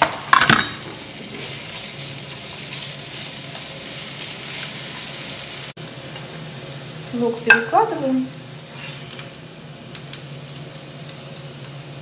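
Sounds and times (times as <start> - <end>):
onion sizzling in a frying pan: 0.0 - 12.0.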